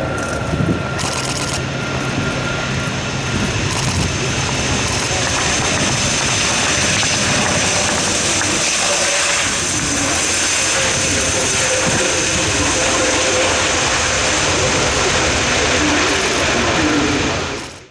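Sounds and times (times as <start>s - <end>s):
high steady whine: 0.0s - 17.9s
turboprop engine and propeller noise: 0.0s - 17.9s.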